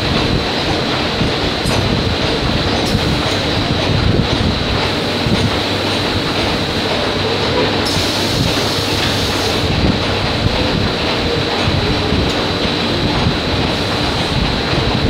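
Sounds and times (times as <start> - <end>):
factory machinery whine and rattle: 0.0 - 15.0.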